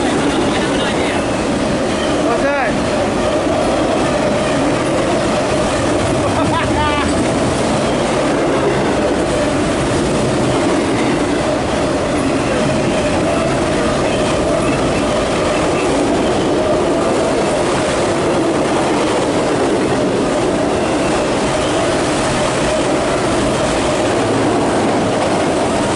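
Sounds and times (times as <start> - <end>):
freight train rumbling past: 0.0 - 25.9.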